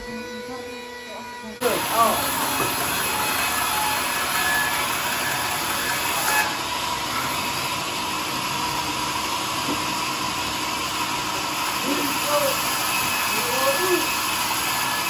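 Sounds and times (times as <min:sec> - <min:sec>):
sawmill machinery rushing: 0:01.5 - 0:15.0.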